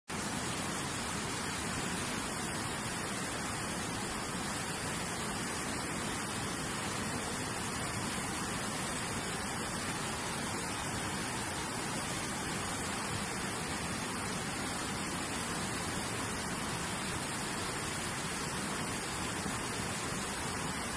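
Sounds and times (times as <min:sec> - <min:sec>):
river rushing over rocks: 0:00.1 - 0:20.9.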